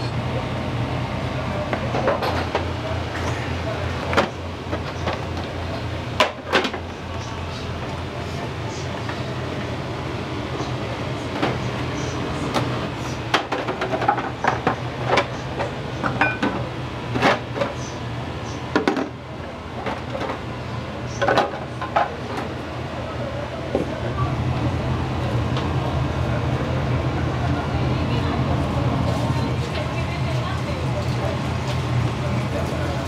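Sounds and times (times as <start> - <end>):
low hum of exhaust fan: 0.0 - 33.0.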